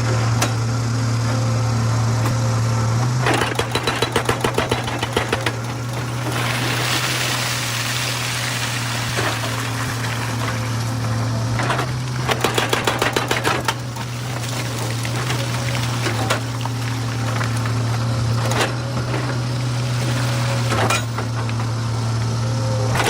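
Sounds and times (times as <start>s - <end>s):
excavator diesel engine running: 0.0s - 23.0s
hydraulic breaker hammering stone: 3.1s - 22.3s.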